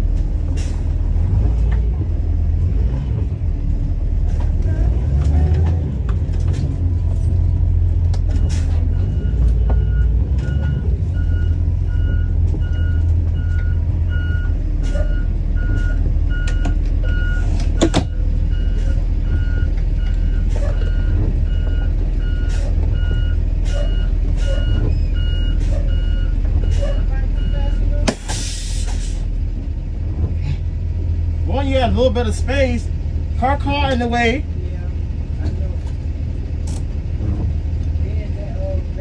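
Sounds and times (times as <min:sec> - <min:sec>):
bus engine low rumble: 0:00.0 - 0:39.0.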